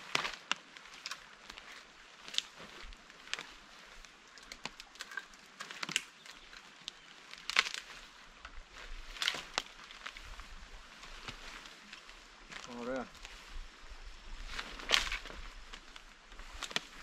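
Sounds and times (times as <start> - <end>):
footsteps snapping twigs: 0.0 - 13.6, 14.2 - 17.0
faint steady hiss: 0.0 - 17.0.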